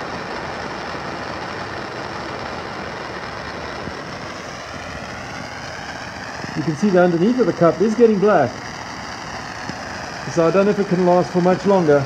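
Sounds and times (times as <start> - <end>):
propane torch hissing: 0.0 - 12.0
water starting to boil: 0.0 - 12.0.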